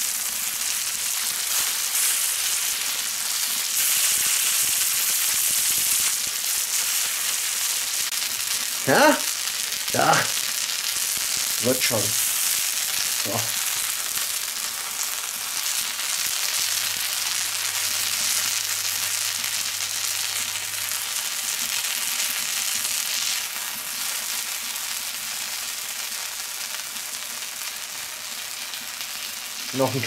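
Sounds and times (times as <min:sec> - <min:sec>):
bacon sizzling on hot plate: 0:00.0 - 0:30.0.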